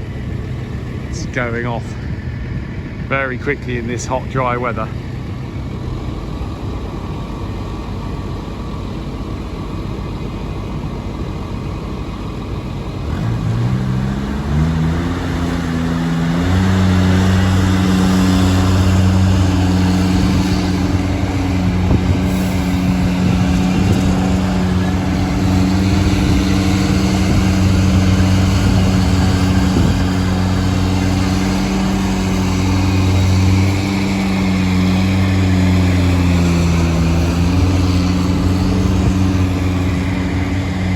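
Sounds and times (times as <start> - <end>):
engine running hum: 0.0 - 40.9.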